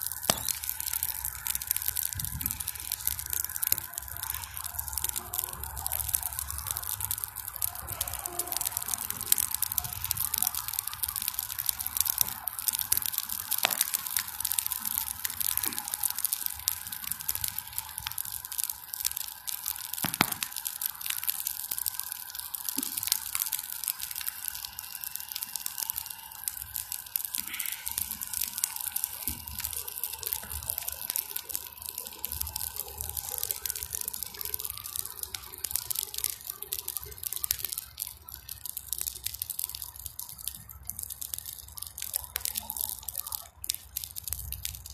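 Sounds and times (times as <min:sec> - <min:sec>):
bonfire crackling: 0:00.0 - 0:44.9
loud fire snap: 0:00.0 - 0:44.9.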